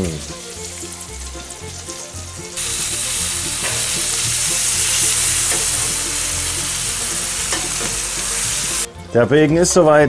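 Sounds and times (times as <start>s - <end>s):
bacon sizzling: 0.0s - 8.9s.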